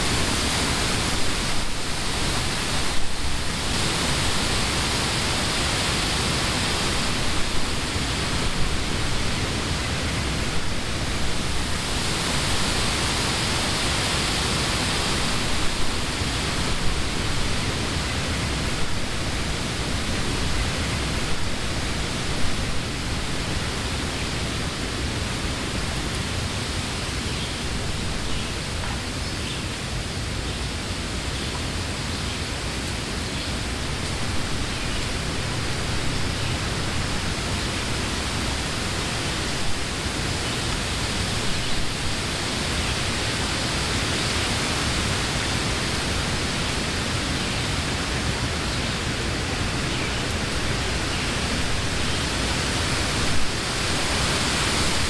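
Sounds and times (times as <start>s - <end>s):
wind through tree leaves: 0.0s - 55.0s.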